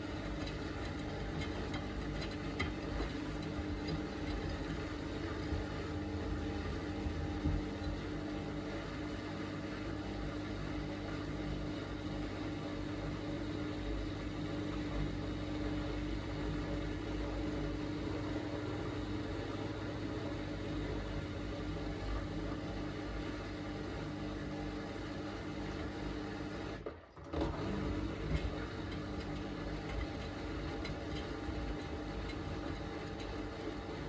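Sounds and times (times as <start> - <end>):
washing machine motor hum: 0.0 - 34.0.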